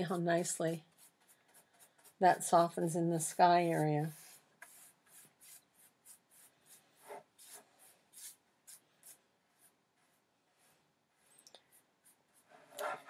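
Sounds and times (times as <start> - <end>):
brush swishing over wet paint: 0.0 - 13.0.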